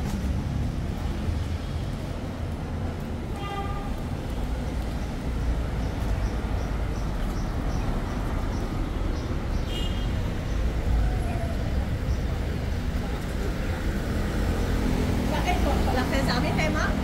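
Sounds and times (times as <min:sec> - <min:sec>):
rumble of vehicle engines: 0:00.0 - 0:17.0.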